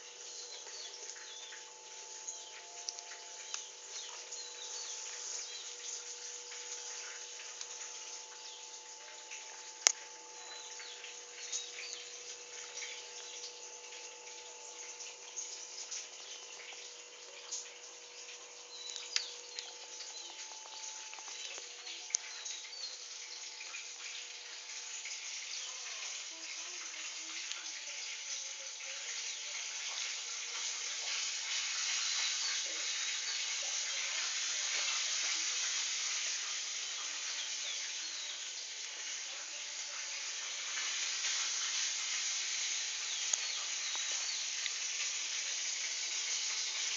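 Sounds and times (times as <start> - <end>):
steady hissing noise: 0.0 - 46.9.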